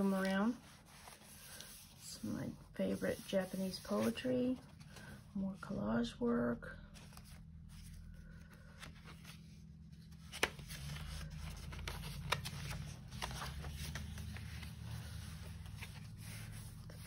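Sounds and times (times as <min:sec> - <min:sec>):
paper pages rustling: 0:00.0 - 0:02.0, 0:03.0 - 0:05.2, 0:06.9 - 0:17.0
low steady hum: 0:00.0 - 0:17.0.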